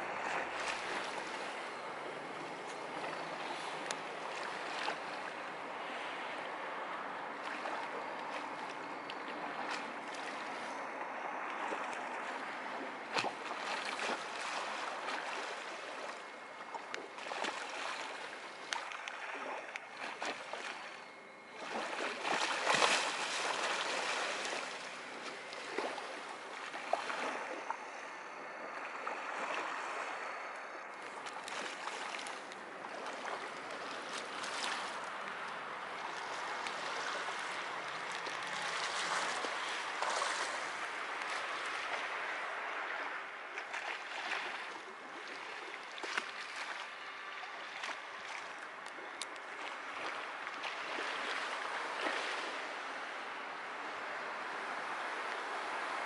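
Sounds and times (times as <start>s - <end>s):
small waves lapping against seawall: 0.0s - 56.0s.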